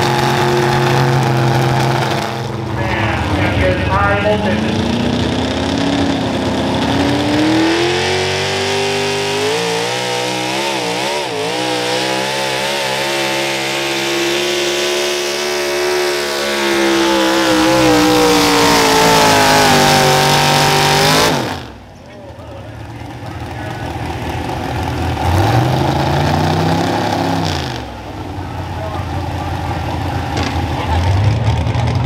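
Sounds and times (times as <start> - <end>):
truck engine at full power: 0.0 - 32.0.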